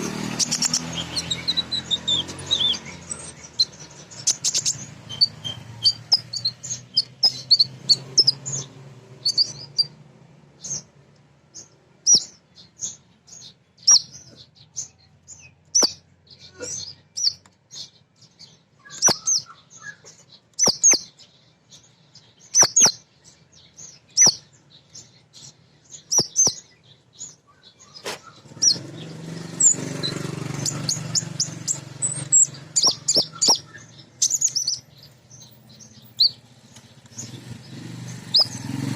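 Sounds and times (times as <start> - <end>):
bird high-pitched chirps: 0.0 - 10.0, 10.6 - 38.9.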